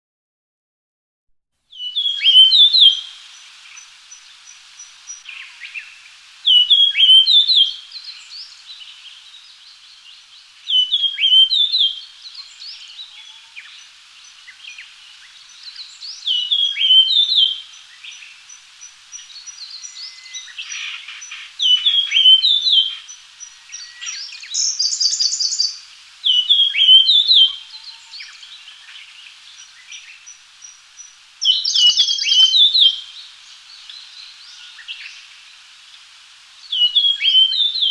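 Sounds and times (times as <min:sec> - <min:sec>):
bird whistling song: 0:01.7 - 0:09.5, 0:10.1 - 0:33.2, 0:36.7 - 0:37.9.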